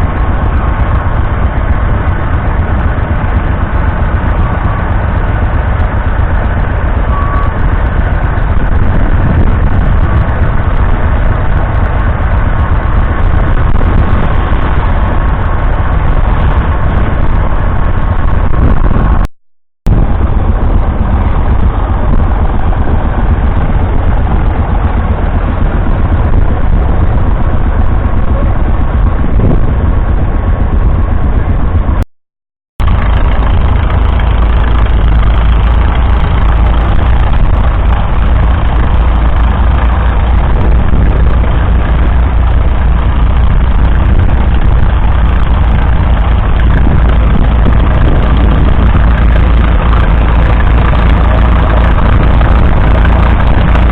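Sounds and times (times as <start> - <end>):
tractor engine rumbling: 0.0 - 32.1, 32.8 - 53.9.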